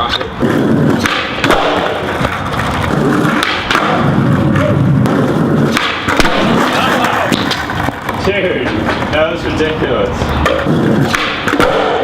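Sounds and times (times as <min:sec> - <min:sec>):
skateboard clacking on ground: 0:00.0 - 0:12.0
skateboard wheels rolling on pavement: 0:00.0 - 0:12.0.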